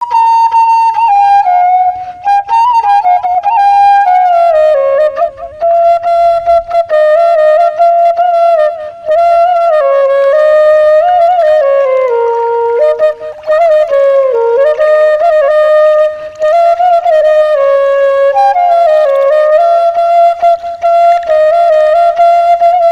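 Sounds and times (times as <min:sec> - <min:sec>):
bamboo flute melody: 0:00.0 - 0:22.9.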